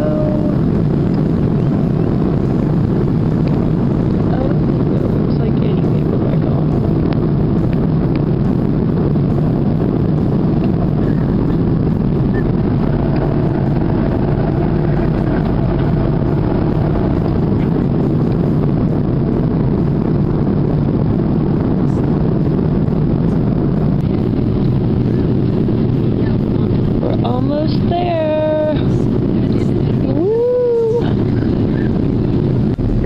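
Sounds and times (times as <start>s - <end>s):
airliner cabin engine rush: 0.0s - 33.0s.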